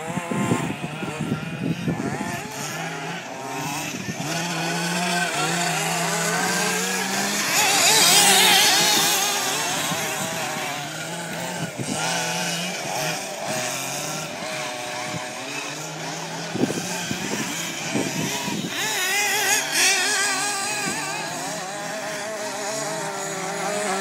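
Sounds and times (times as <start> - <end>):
small engines buzzing: 0.0 - 24.0.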